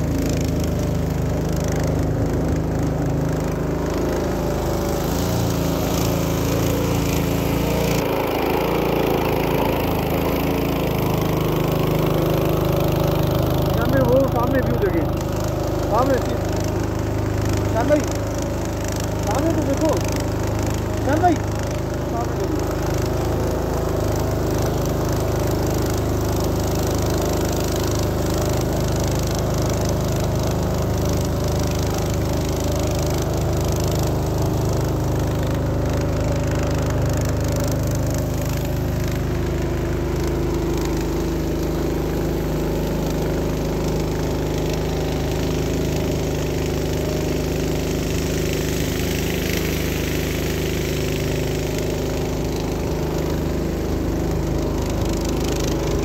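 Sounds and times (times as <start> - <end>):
motorboat engine running: 0.0 - 56.0
water rushing along hull: 0.0 - 56.0.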